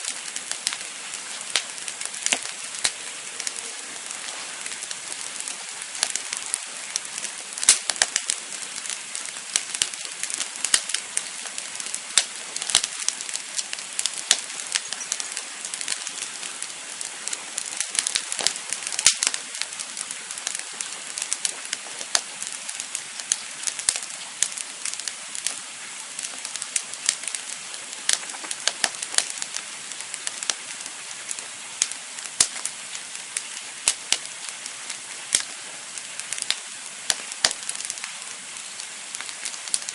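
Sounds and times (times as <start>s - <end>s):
steady hiss: 0.0s - 39.9s
wood crackling and popping: 0.0s - 39.9s.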